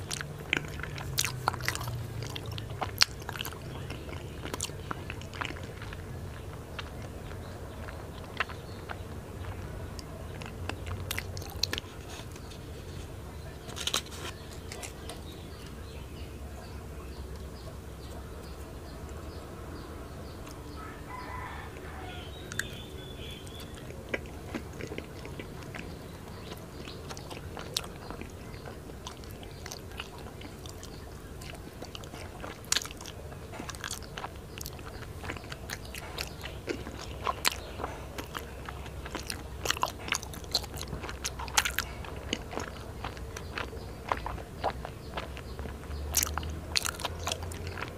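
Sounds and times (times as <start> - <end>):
chewing sticky rice cake: 0.0 - 47.9.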